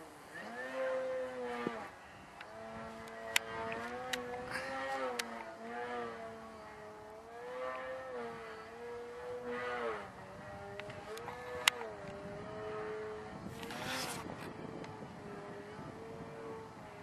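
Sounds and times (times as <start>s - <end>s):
model airplane motor and propeller: 0.0s - 17.0s.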